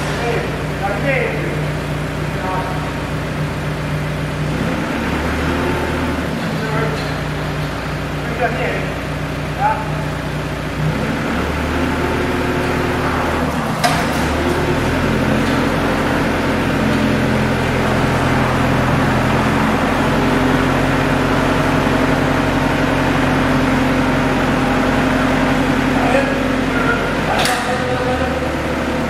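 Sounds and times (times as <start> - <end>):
crane motors humming: 0.0 - 29.0.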